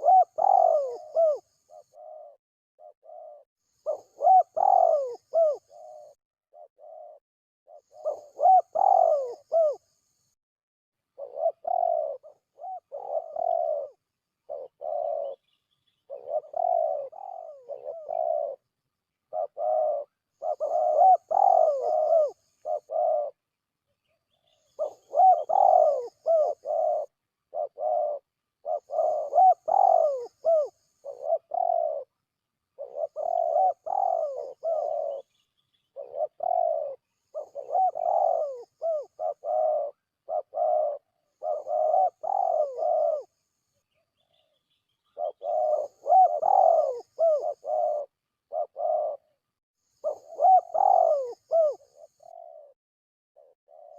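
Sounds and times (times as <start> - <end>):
dove cooing: 0.0 - 10.0, 11.1 - 52.8, 53.4 - 53.9.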